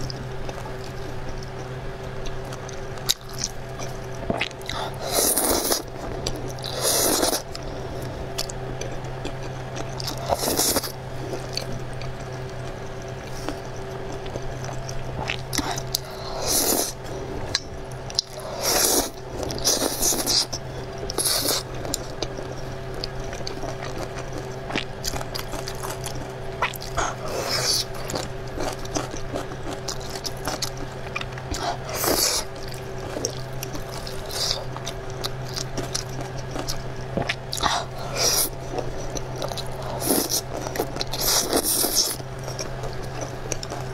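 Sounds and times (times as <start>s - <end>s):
chewing and mouth sounds: 0.0s - 43.9s
steady low hum: 0.0s - 43.9s.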